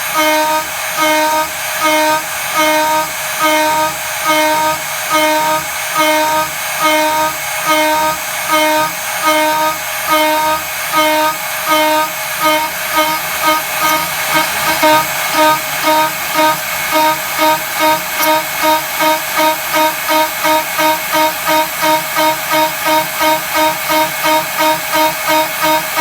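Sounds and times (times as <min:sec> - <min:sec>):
cnc spindle cutting metal: 0:00.0 - 0:26.0.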